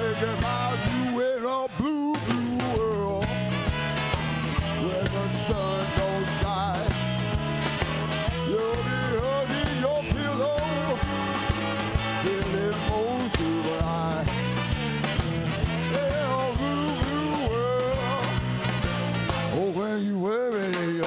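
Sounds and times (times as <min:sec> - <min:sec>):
blues band playing live: 0:00.0 - 0:21.0.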